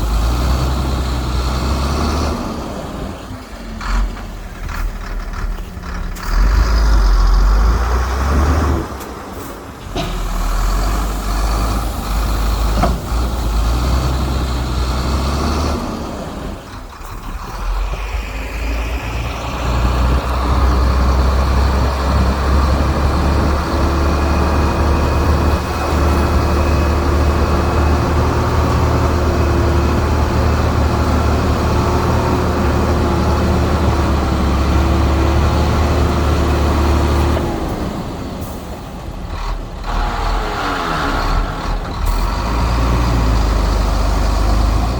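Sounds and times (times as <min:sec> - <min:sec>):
diesel earthmoving engine rumbling: 0:00.0 - 0:44.9.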